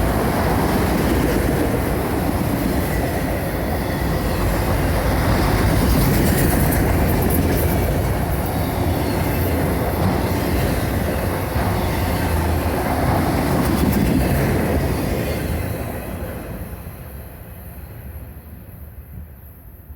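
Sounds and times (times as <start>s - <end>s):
train wheels rumbling over rail joints: 0.0s - 16.9s
train wheels squealing: 0.0s - 18.8s.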